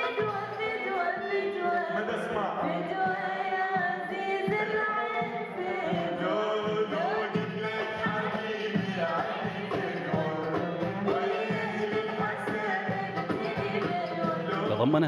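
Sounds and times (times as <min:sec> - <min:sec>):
woman singing into a microphone: 0:00.0 - 0:14.7
backing music: 0:00.0 - 0:15.0.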